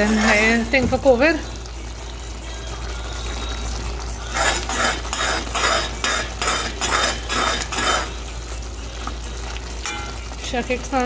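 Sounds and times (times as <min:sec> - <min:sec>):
metal spoon stirring and scraping: 0:00.0 - 0:01.2, 0:02.6 - 0:10.8
pot bubbling: 0:00.0 - 0:11.0.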